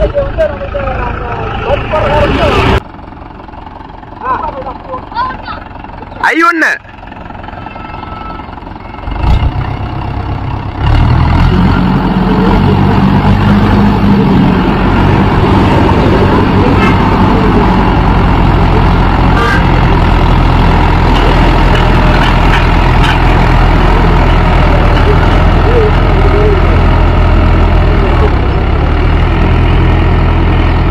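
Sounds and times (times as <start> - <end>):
tractor diesel engine: 0.0 - 30.9.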